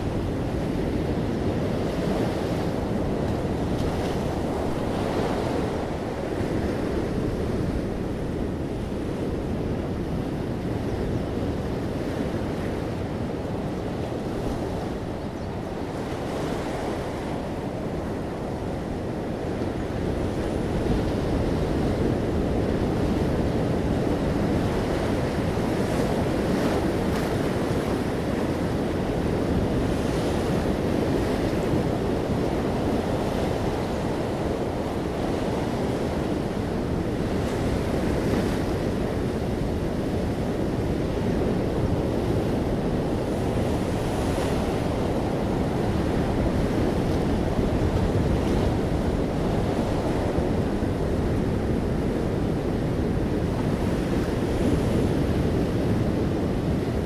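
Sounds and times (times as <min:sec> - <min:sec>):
ocean surf on beach: 0:00.0 - 0:57.0.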